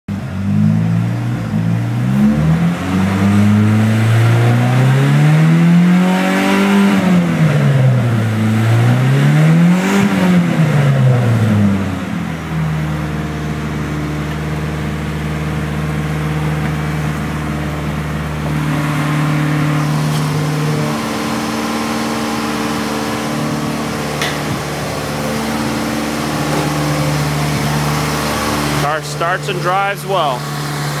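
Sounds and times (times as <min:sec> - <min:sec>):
car engine revving and idling: 0:00.1 - 0:31.0.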